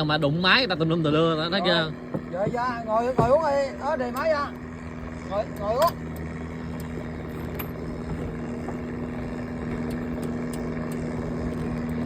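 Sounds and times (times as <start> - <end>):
small boat engine humming: 0.0 - 12.0.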